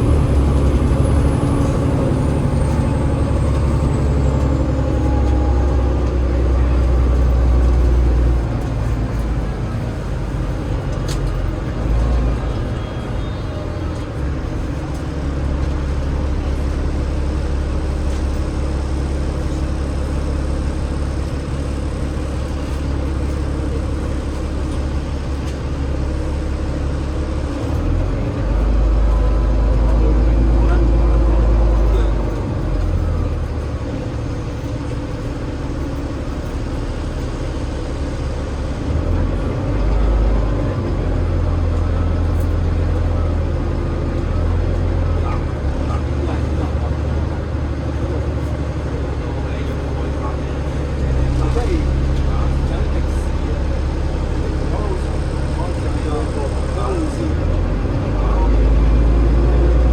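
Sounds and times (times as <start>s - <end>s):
bus diesel engine rumble: 0.0s - 59.9s.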